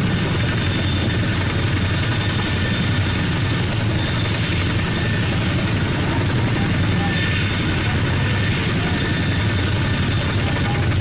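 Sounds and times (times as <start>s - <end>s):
helicopter rotors throbbing: 0.0s - 11.0s
high engine whine: 0.0s - 11.0s.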